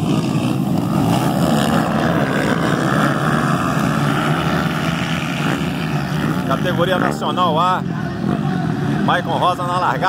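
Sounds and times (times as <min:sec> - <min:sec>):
motocross bikes accelerating: 0:00.0 - 0:10.0.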